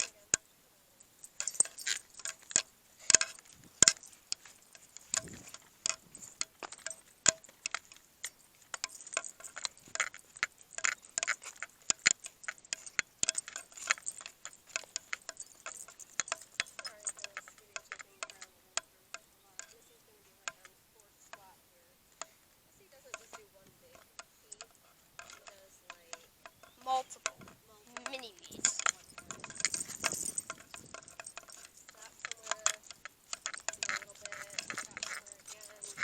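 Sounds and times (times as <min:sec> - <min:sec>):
rapid patter of sharp clicks: 0:01.3 - 0:20.7, 0:23.0 - 0:36.0.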